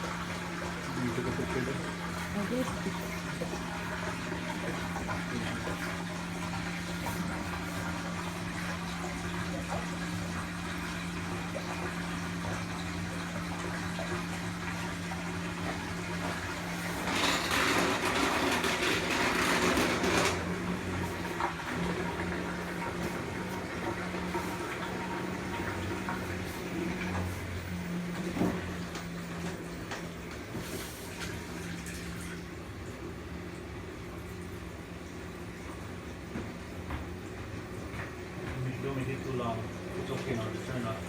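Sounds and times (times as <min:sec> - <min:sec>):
drain pump humming: 0:00.0 - 0:41.0.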